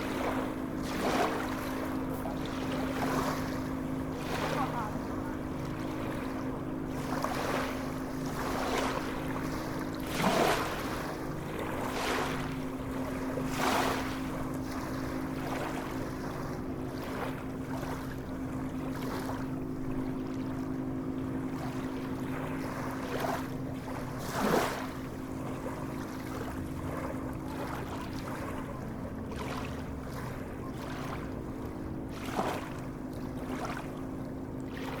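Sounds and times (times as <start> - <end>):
sea waves lapping and splashing: 0.0 - 35.0.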